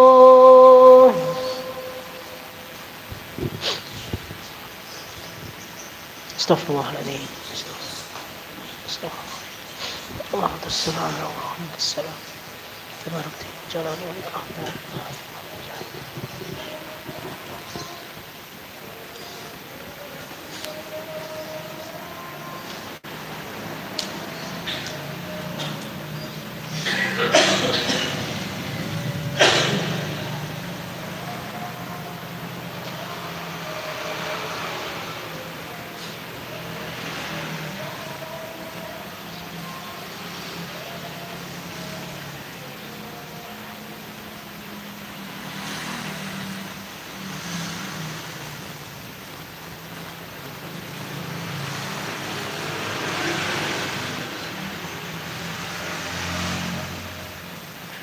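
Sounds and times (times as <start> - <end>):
faint hiss: 0.0 - 58.0
road traffic passing: 0.0 - 58.0.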